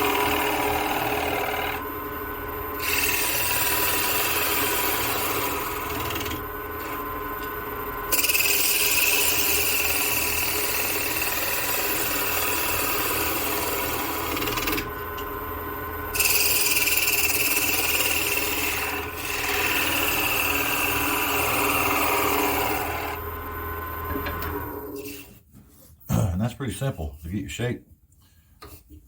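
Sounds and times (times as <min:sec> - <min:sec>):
wood lathe humming: 0:00.0 - 0:25.2.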